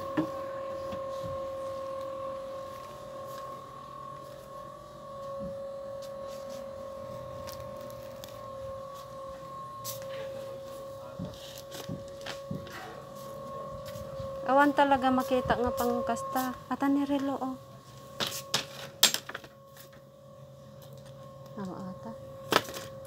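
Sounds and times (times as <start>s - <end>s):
high hum of held tones: 0.0s - 23.0s.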